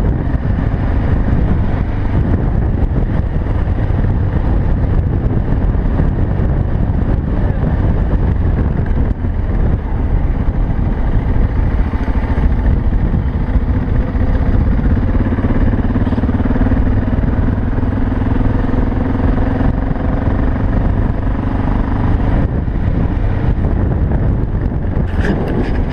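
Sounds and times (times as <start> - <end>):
dense low rumble: 0.0 - 25.9
motorcycle engine running: 0.0 - 25.9.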